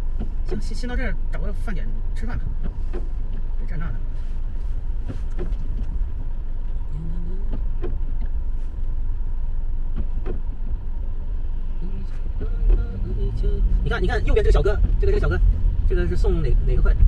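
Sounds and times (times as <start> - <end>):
car cabin rumble: 0.0 - 17.0
windshield wiper sweeping: 0.0 - 17.0.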